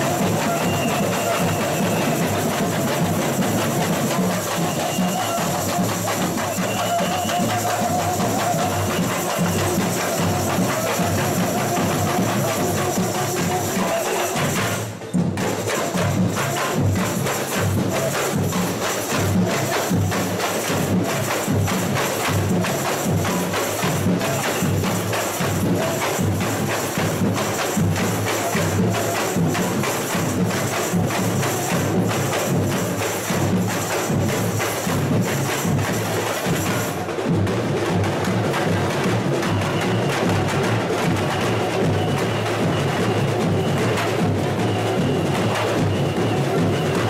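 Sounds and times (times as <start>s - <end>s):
samba drumming: 0.0s - 47.0s.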